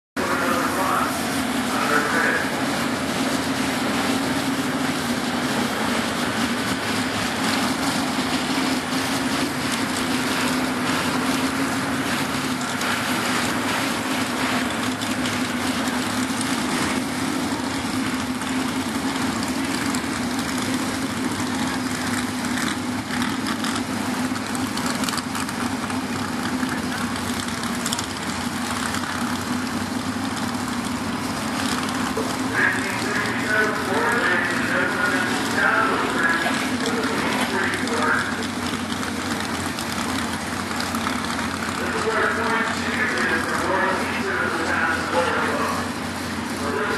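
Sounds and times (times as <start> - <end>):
truck engine idling: 0.2 - 46.9.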